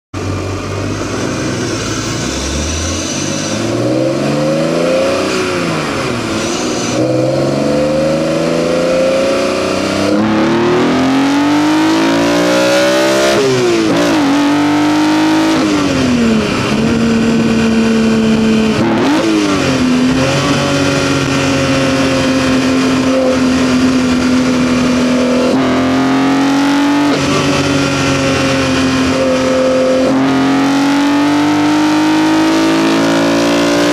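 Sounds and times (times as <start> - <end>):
car engine revving with intake noise: 0.2 - 33.9.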